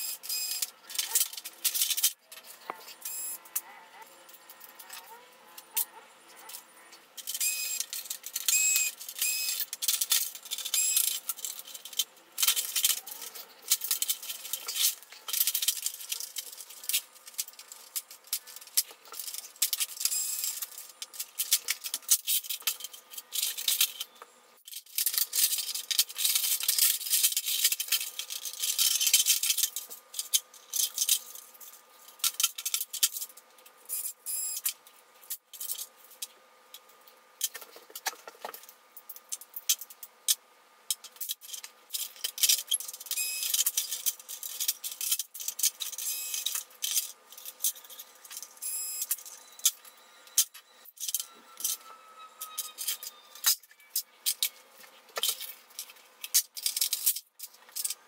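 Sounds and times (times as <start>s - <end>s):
plastic parts clicking and rattling: 0.0s - 58.0s.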